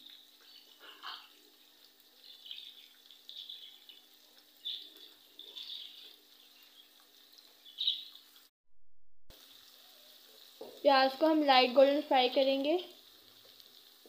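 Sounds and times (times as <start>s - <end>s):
onions sizzling in hot oil: 0.0s - 8.5s, 9.3s - 14.0s.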